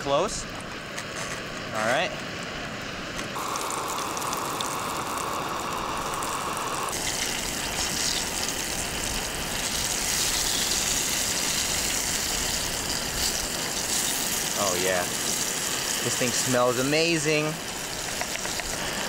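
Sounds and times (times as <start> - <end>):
fish frying in hot oil: 2.3 - 19.0.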